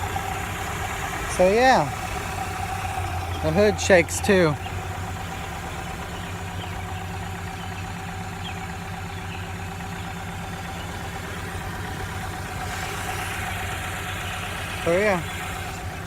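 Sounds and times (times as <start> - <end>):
engine idling with misfire: 0.0 - 16.0.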